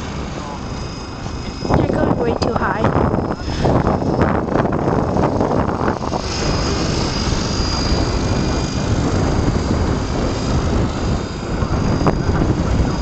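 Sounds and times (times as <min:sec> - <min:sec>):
model plane motor whine: 0:00.0 - 0:13.0
wind buffeting microphone: 0:00.0 - 0:13.0.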